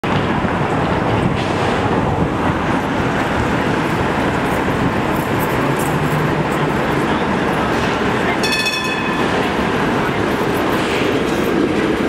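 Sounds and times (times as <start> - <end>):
city traffic: 0.0 - 12.0
streetcar wheels rumbling on rails: 0.0 - 12.0.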